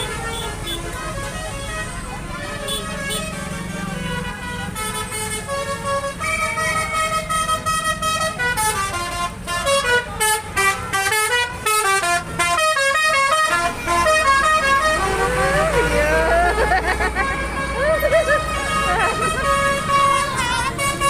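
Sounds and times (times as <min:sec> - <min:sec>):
bus engine rumble: 0:00.0 - 0:21.0
multi-tone musical air horn: 0:00.0 - 0:21.0.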